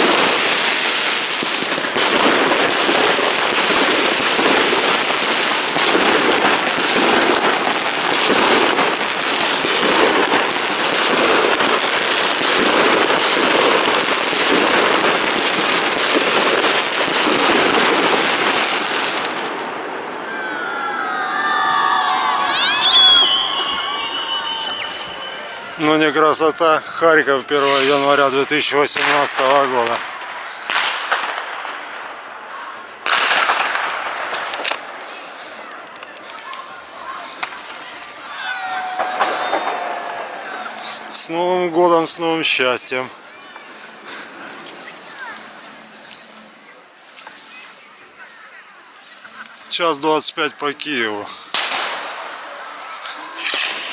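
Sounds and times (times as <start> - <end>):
fireworks bangs: 0.0 - 53.9
fireworks crackling: 0.0 - 53.9.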